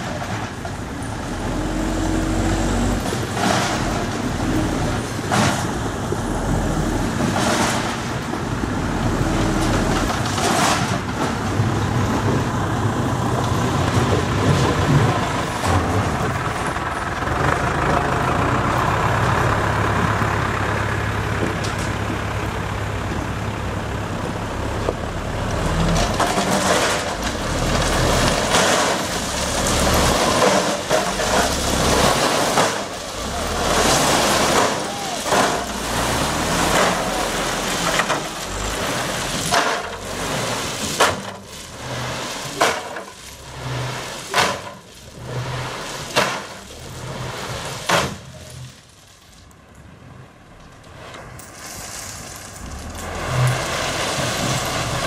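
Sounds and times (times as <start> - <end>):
diesel truck engine running: 0.0 - 49.1, 50.0 - 55.0
gravel dumping: 0.0 - 55.0.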